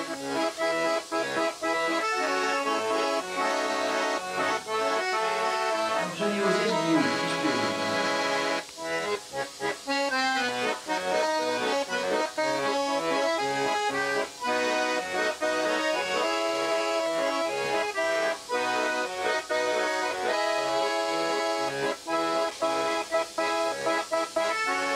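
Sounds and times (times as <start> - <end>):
instrumental background music: 0.0 - 24.9.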